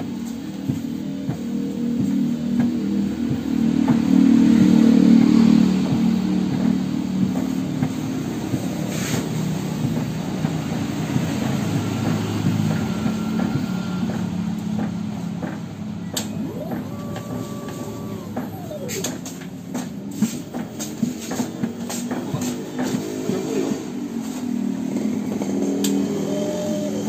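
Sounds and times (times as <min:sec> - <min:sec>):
paint machine pump motor drone: 0:00.0 - 0:27.0.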